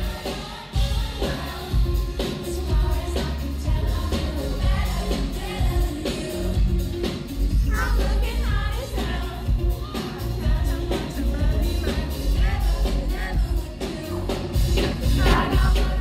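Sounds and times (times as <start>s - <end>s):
drum beat: 0.0s - 16.0s
woman singing into microphone: 0.0s - 16.0s
heavy bass: 2.5s - 16.0s.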